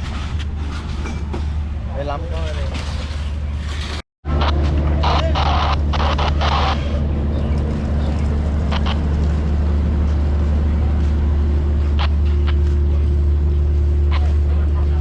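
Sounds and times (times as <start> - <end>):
engine humming steadily: 0.0 - 15.0.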